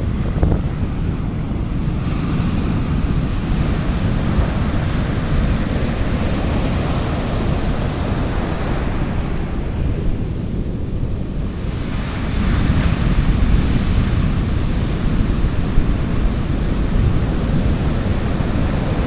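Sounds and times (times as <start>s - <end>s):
low rumble of wind on microphone: 0.0s - 19.0s
sea waves washing onto beach: 0.0s - 19.0s.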